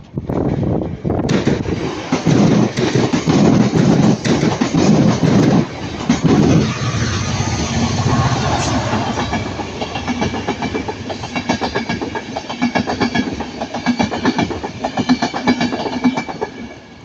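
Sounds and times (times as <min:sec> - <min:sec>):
train wheels clattering over rail joints: 0:00.4 - 0:16.6.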